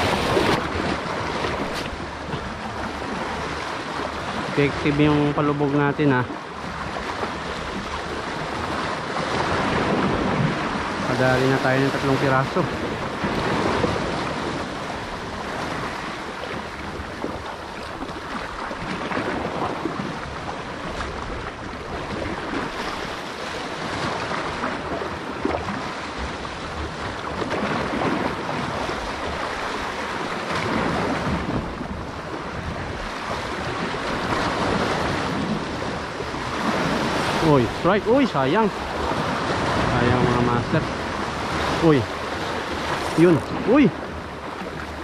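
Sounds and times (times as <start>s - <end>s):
waves washing against rocks: 0.0s - 45.0s
wind buffeting microphone: 0.0s - 45.0s.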